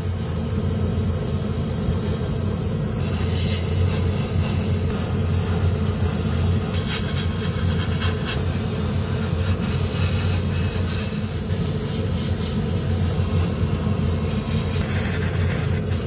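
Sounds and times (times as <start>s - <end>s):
airbrush hissing: 0.0s - 16.0s
compressor humming: 0.0s - 16.0s.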